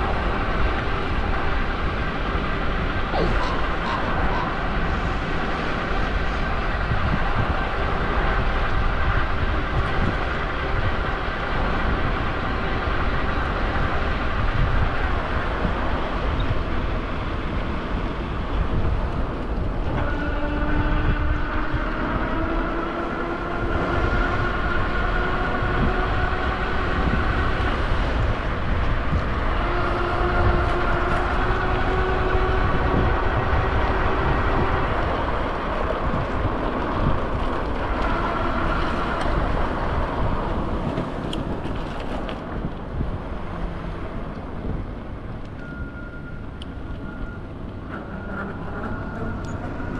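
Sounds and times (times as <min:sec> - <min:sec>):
rail vehicle rumble: 0:00.0 - 0:49.9.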